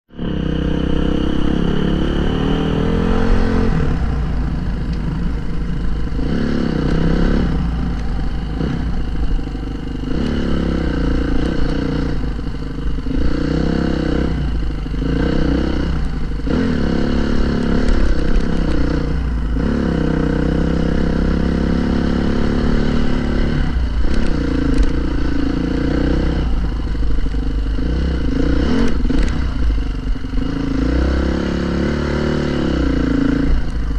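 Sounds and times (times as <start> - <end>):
dirt bike engine revving: 0.1 - 33.7.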